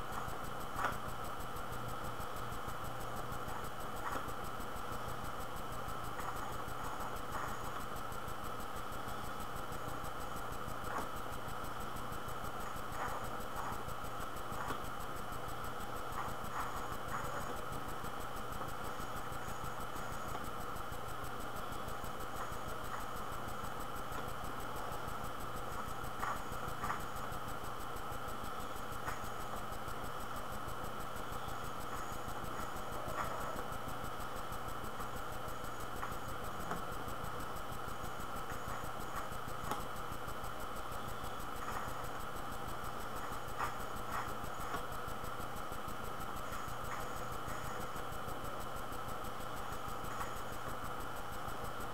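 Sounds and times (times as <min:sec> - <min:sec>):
room tone hiss and hum: 0:00.0 - 0:51.9.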